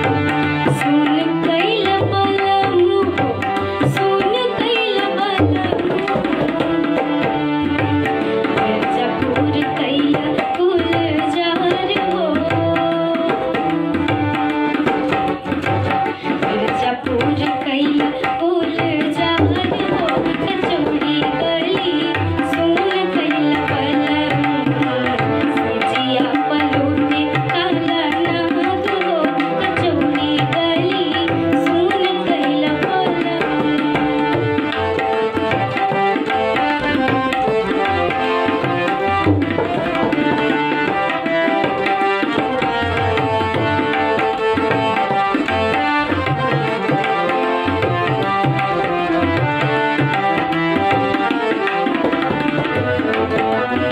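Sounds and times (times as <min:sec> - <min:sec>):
tabla rhythm: 0:00.0 - 0:53.9.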